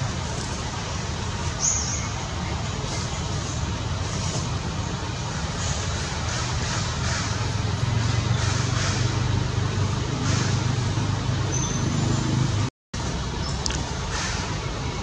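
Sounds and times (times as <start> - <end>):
traffic drone: 0.0 - 15.0.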